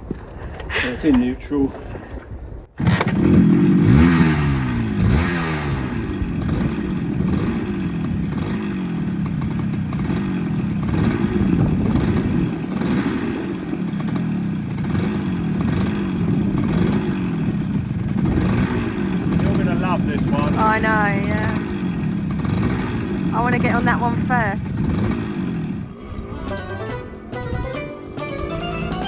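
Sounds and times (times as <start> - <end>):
motorcycle engine revving: 2.8 - 29.0.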